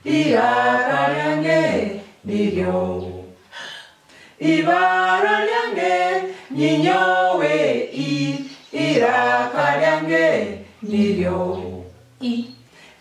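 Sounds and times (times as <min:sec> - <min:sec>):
group singing unaccompanied: 0:00.0 - 0:12.7.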